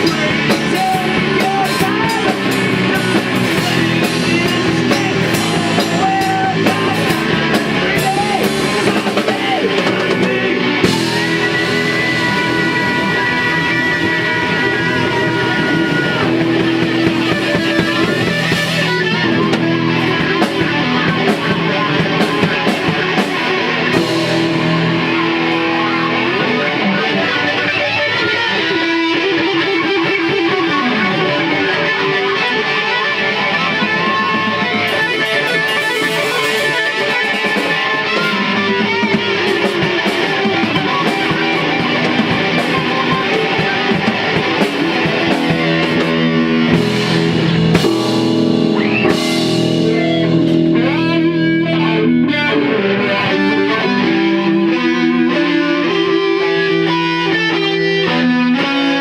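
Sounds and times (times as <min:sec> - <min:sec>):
rock band playing loudly: 0:00.0 - 0:59.0.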